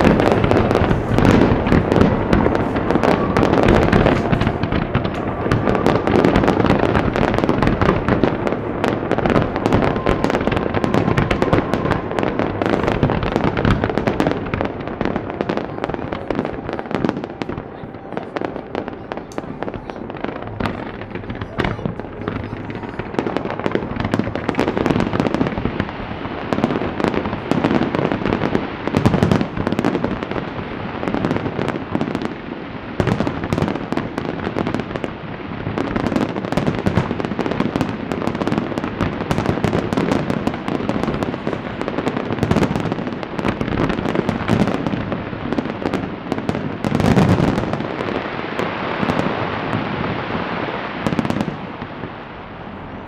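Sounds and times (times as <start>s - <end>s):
deep fireworks booms: 0.0s - 53.0s
fireworks crackling and popping: 0.0s - 53.0s.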